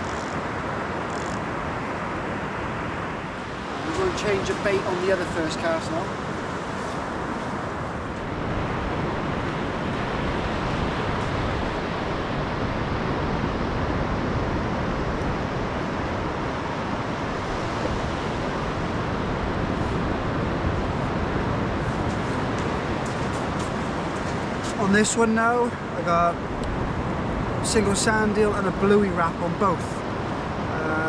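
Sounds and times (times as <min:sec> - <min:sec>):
wind noise on microphone: 0:00.0 - 0:31.0.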